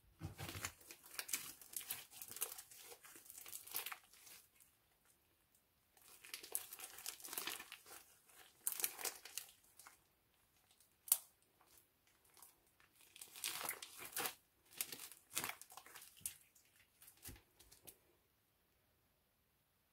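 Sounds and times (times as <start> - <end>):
slime squelching and popping: 0.2 - 5.2, 5.9 - 10.0, 10.6 - 18.0.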